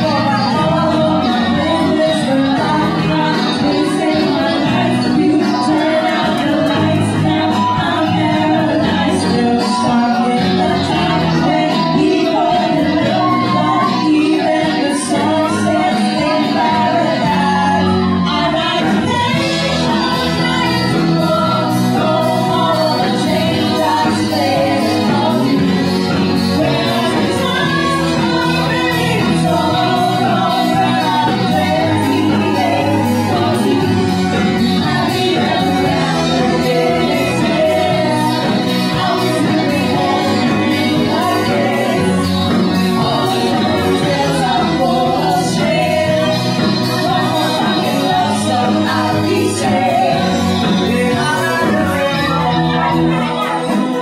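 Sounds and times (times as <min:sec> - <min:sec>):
live band playing pop: 0:00.0 - 0:54.0
woman singing: 0:00.0 - 0:54.0.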